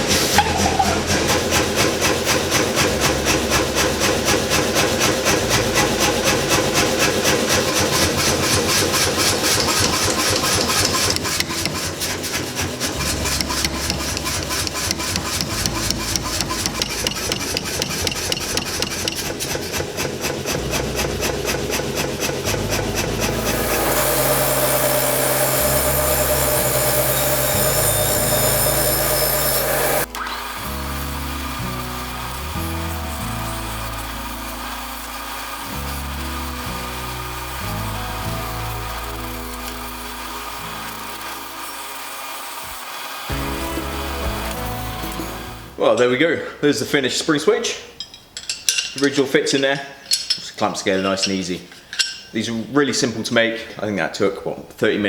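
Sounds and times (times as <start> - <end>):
power hammer striking hot steel: 0.0 - 45.8.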